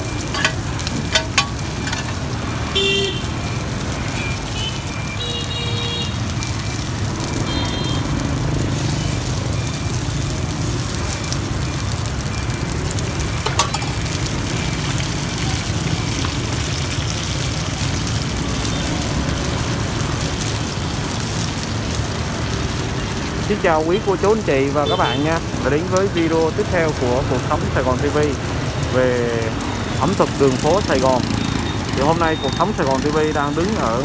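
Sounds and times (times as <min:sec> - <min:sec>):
food sizzling in oil: 0:00.0 - 0:34.0
low traffic hum: 0:00.0 - 0:34.0.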